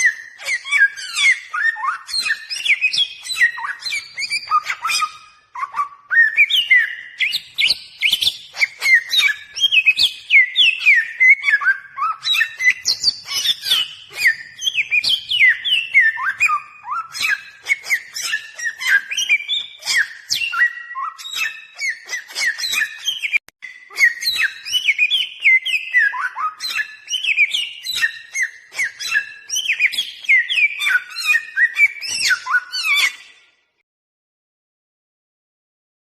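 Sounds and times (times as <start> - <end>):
bird whistling varied notes: 0.0 - 33.4.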